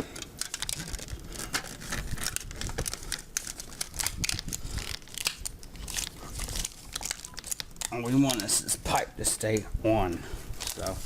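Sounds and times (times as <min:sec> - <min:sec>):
tape crinkling and tearing: 0:00.2 - 0:09.6, 0:10.6 - 0:11.0.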